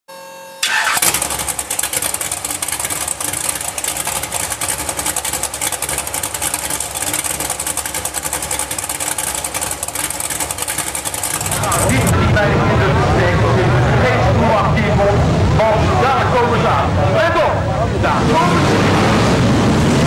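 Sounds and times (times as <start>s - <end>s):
race car engines crackling: 0.6s - 20.0s.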